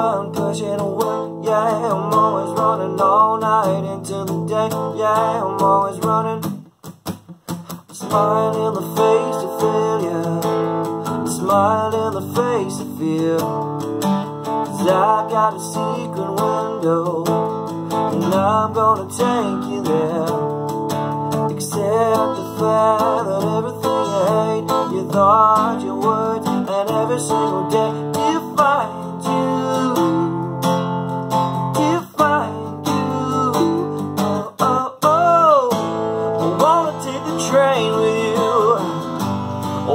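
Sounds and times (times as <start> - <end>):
man singing: 0.0 - 6.6, 7.8 - 39.9
acoustic guitar strumming: 0.0 - 39.9.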